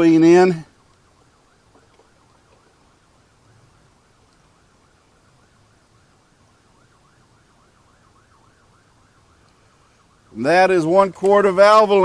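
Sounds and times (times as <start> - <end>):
faint wailing siren: 0.0 - 12.0.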